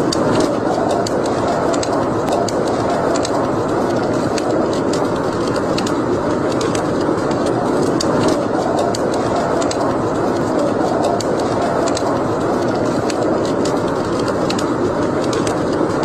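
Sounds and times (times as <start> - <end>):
fire flames rushing: 0.0 - 16.0
wood fire crackling and popping: 0.0 - 16.0.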